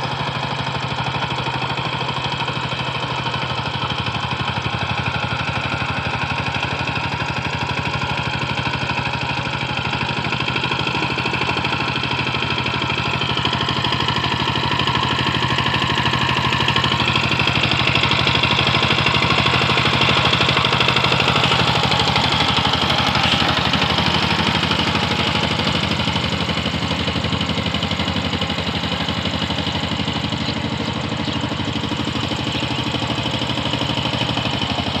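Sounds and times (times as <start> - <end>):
tiller diesel engine running: 0.0 - 35.0.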